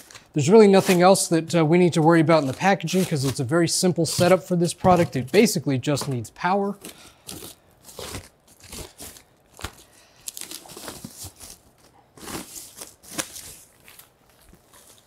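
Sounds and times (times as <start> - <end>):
plastic bag crinkling: 2.0 - 15.0.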